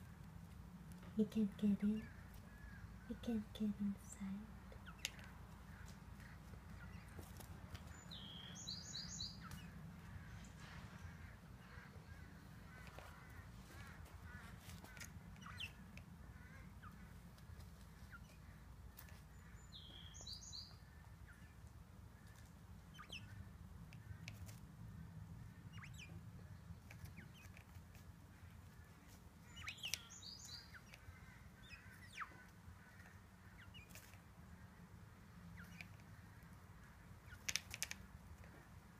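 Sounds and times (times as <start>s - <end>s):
faint low hum: 0.0s - 38.9s
quail chirping: 4.7s - 24.6s, 25.5s - 38.6s.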